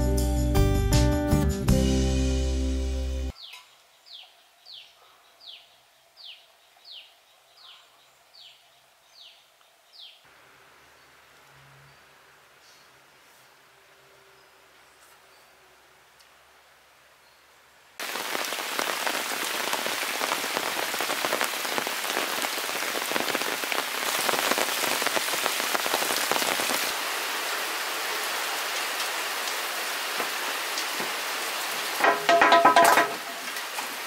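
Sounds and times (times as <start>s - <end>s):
rain falling on foliage: 3.2s - 34.0s.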